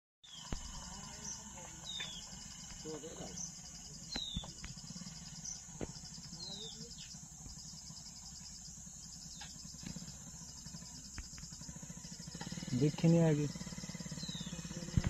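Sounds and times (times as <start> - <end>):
insects trilling: 0.2 - 15.0.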